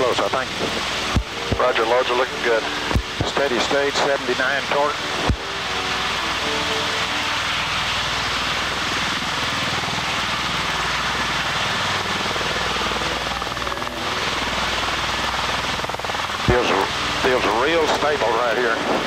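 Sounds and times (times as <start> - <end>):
tiltrotor aircraft hovering roar: 0.0 - 19.0.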